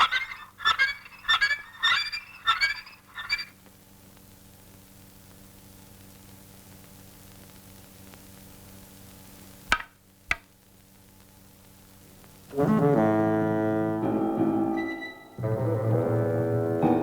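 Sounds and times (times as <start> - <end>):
film soundtrack hiss and hum: 0.0 - 17.0.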